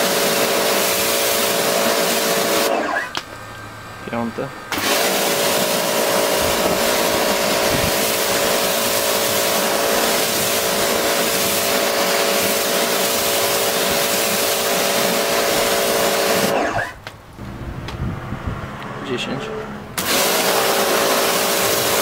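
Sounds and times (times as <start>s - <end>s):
water jet hissing: 0.0s - 3.5s, 4.1s - 16.9s, 20.0s - 22.0s
pressure washer motor hum: 0.0s - 19.0s, 19.9s - 22.0s.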